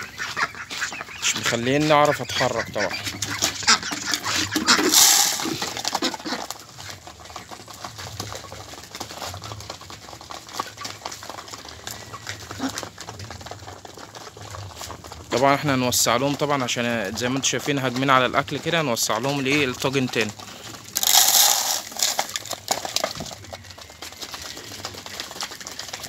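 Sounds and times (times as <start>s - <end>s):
beaks clicking on feed dish: 0.0s - 26.0s.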